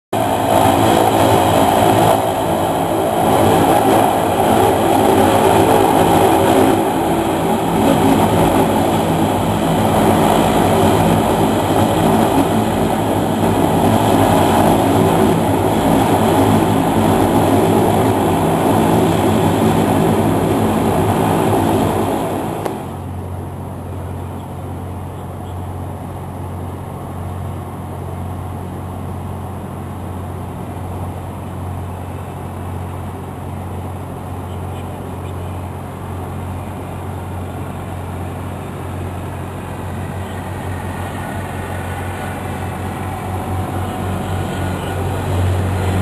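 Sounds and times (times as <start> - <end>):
turboprop airliner engine drone: 0.1 - 46.0.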